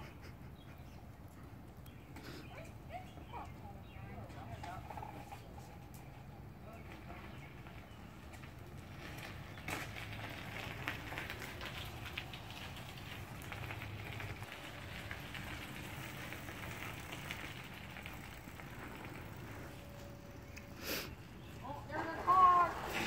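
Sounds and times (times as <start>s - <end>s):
bicycle tyres crunching on gravel: 4.4s - 23.0s.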